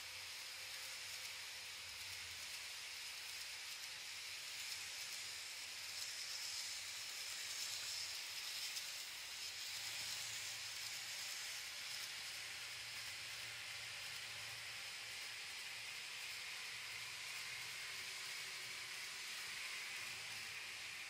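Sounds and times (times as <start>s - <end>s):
model train wheels hissing: 0.0s - 21.0s.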